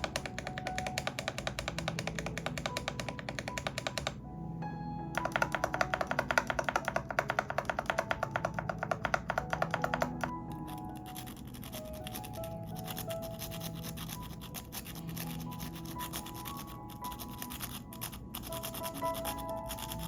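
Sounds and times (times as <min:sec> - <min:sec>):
fast mechanical keyboard typing: 0:00.0 - 0:04.2, 0:05.2 - 0:20.0
background music: 0:00.0 - 0:20.0.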